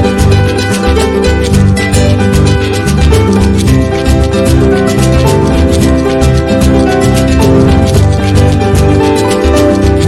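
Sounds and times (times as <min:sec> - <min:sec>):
music with plucked strings and percussion: 0:00.0 - 0:10.0.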